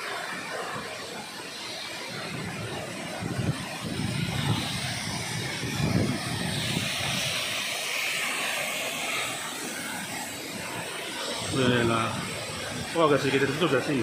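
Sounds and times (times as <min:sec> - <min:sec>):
stream rushing over boulders: 0:00.0 - 0:14.0
waterfall roaring: 0:00.0 - 0:14.0.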